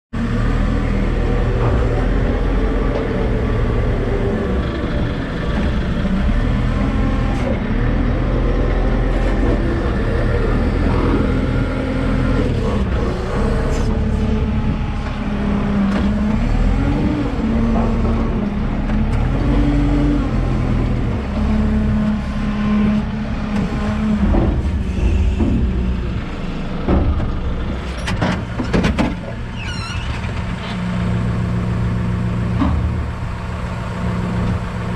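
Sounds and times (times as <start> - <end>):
diesel engine revving: 0.2 - 28.6.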